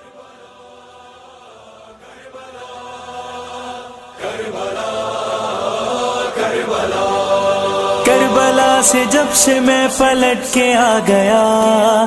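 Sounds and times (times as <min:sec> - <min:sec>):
wordless chorus chanting: 0:00.0 - 0:12.0.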